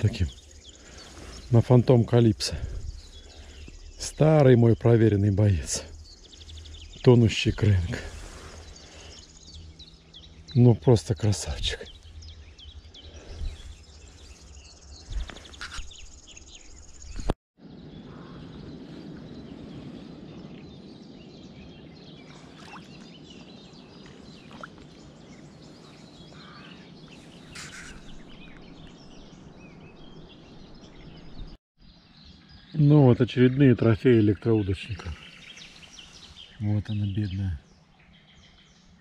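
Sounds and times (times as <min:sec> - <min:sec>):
bird chirps: 0:00.0 - 0:39.0.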